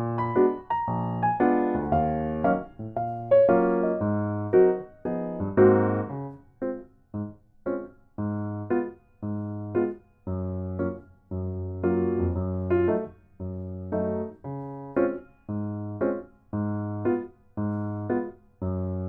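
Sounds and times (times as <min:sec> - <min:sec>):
bouncy electric piano tune: 0:00.0 - 0:19.0.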